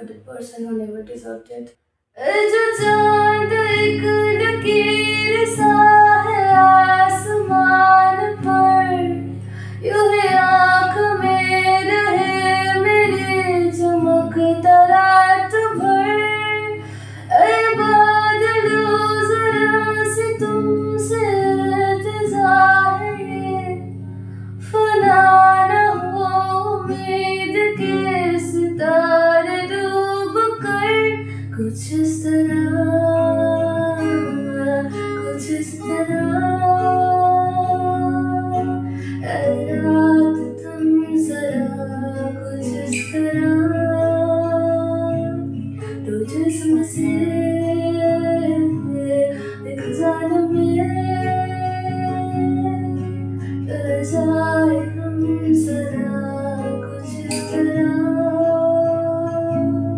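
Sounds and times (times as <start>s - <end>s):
woman singing: 2.2s - 24.0s, 24.6s - 59.9s
plucked acoustic guitar: 2.3s - 59.9s.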